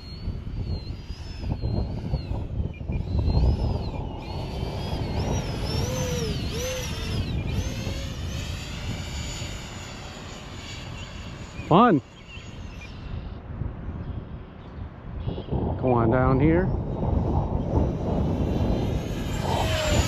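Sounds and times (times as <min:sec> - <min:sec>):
rc jet fan whine: 0:00.0 - 0:20.0
wind buffeting microphone: 0:00.0 - 0:20.0.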